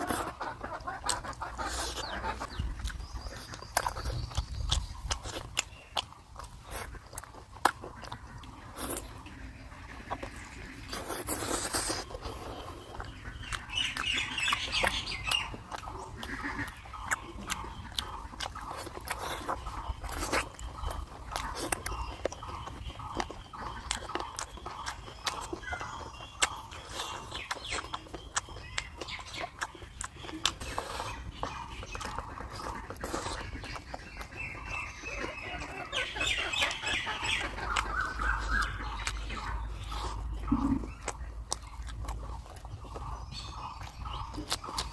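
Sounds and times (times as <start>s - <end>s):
bird-like chirping: 0.0s - 44.9s
chewing with wet mouth clicks: 0.0s - 44.9s
chickens clucking: 0.0s - 44.9s.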